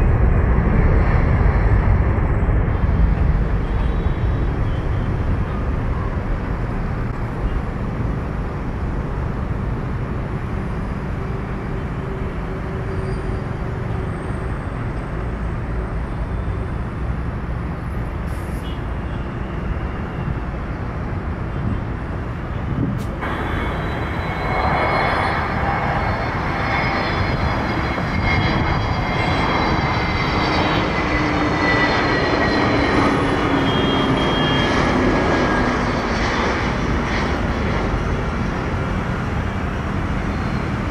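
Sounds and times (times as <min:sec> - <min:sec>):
jet engine whine: 0:00.0 - 0:40.9
jet engines rumbling at takeoff: 0:00.0 - 0:40.9.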